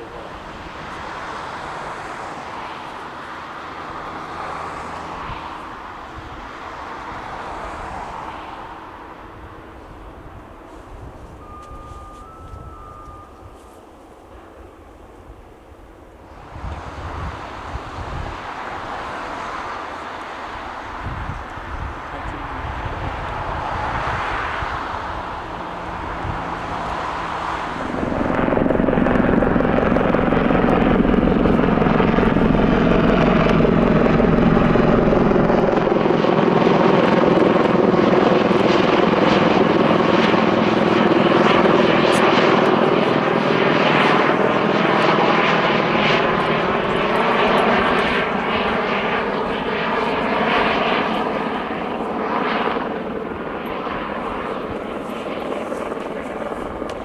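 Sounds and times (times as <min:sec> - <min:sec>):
aircraft flying low overhead: 0:00.0 - 0:57.0.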